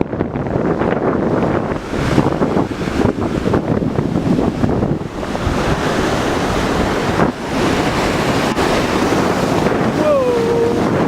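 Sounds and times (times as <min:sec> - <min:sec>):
ocean surf crashing: 0:00.0 - 0:11.0
wind buffeting microphone: 0:00.0 - 0:11.0.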